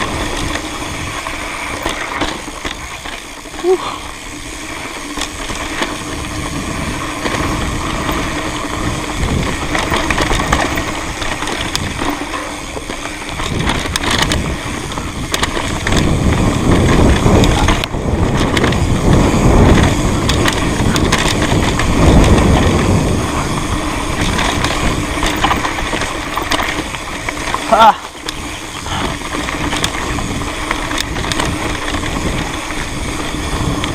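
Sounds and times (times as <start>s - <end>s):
bicycle freehub ticking buzz: 0.0s - 33.9s
wind rumbling on microphone: 0.0s - 33.9s
tyres crunching over dirt and stones: 4.3s - 33.9s.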